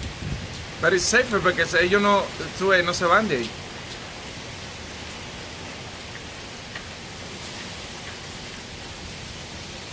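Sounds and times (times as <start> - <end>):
wind and driven rain hissing: 0.0 - 9.9.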